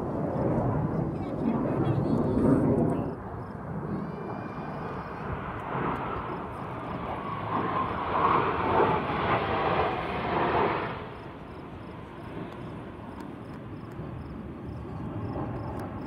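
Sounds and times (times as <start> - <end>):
jet flying past: 0.0 - 16.0.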